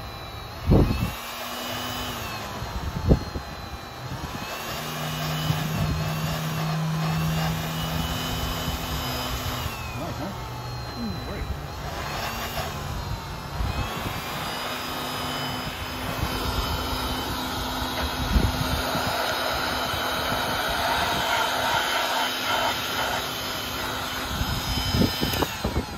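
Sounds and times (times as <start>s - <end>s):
heat gun fan humming: 0.0s - 25.9s.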